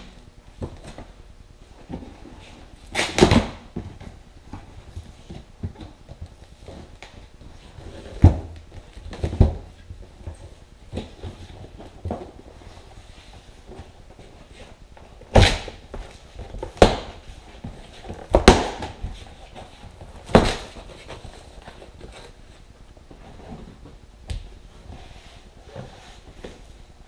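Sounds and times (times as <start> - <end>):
cardboard rustling: 3.4 - 26.9.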